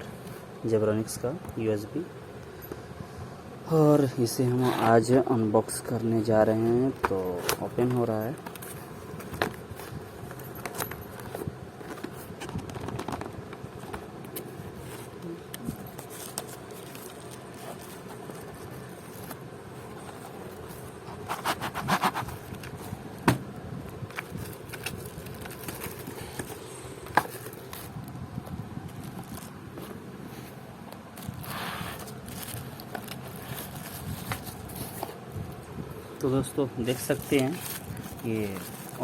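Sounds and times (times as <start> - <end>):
background hum: 0.0 - 39.0
packaging rustling and scraping: 4.4 - 35.6, 36.8 - 39.0.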